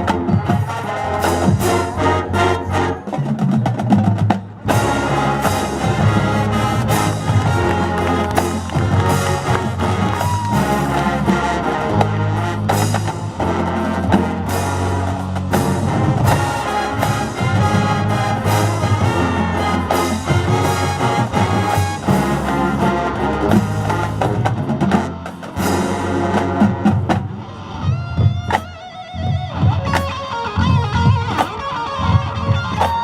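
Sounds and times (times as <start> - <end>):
brass chords: 0.0 - 3.6, 4.5 - 28.3
drums and percussion: 0.0 - 33.0.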